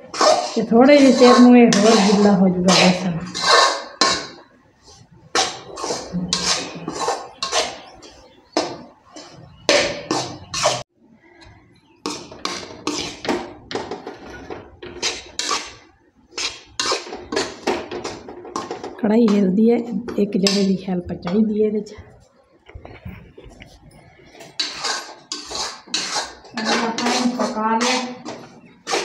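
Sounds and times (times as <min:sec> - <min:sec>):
spoon scraping a metal pan: 0:00.0 - 0:10.9, 0:12.0 - 0:21.4, 0:22.9 - 0:29.0.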